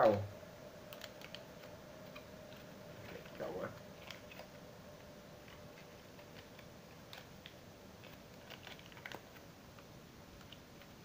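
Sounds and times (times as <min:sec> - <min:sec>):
package crinkling and clicking: 0:00.9 - 0:04.6, 0:05.4 - 0:11.0.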